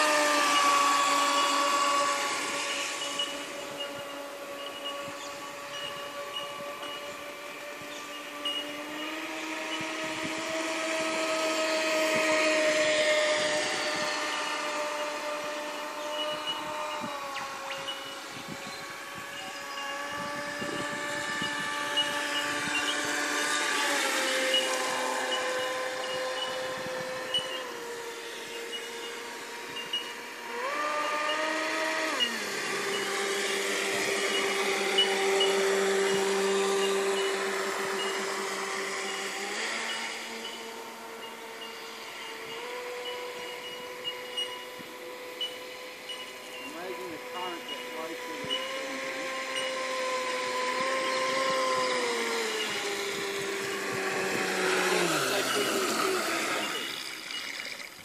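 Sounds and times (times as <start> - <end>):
model boat motor revving: 0.0 - 58.0.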